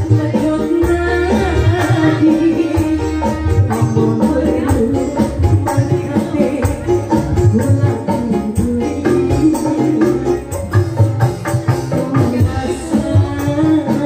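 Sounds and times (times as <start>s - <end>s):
live band with hand drums: 0.0s - 14.0s
woman singing into microphone: 0.0s - 14.0s.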